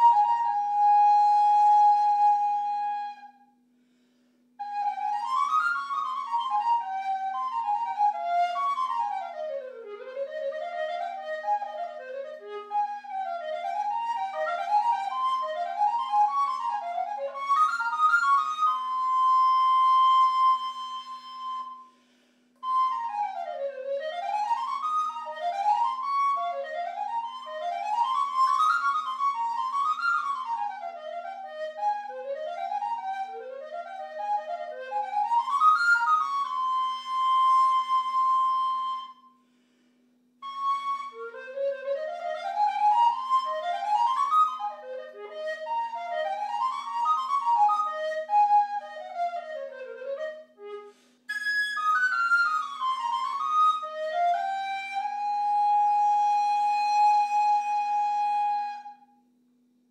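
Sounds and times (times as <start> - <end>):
alto recorder playing: 0.0 - 4.0, 4.6 - 39.4, 40.4 - 59.2.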